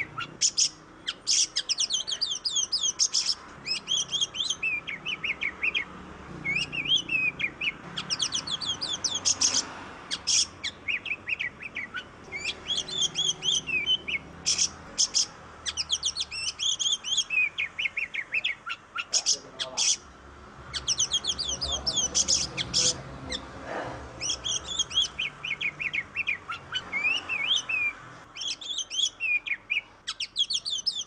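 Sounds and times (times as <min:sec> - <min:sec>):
bird singing fast chirps and trills: 0:00.0 - 0:23.5, 0:24.1 - 0:31.0.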